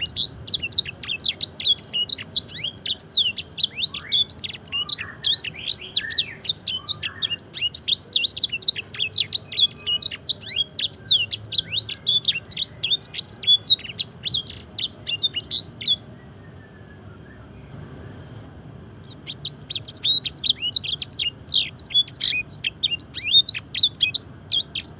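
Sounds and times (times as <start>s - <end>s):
canary singing: 0.0s - 17.8s, 19.0s - 24.9s.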